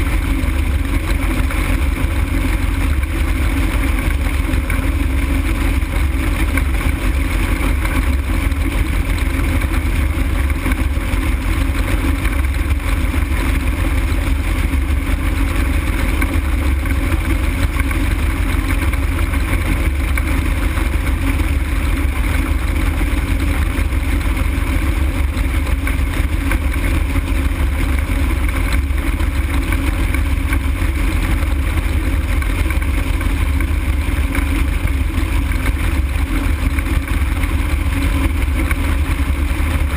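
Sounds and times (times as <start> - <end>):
faint steady engine drone: 0.0 - 39.9.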